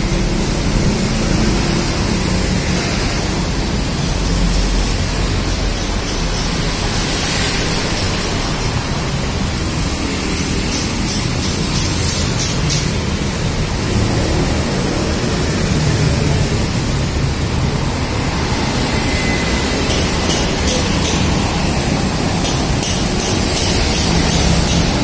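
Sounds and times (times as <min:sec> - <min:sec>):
street traffic passing: 0:00.0 - 0:25.0.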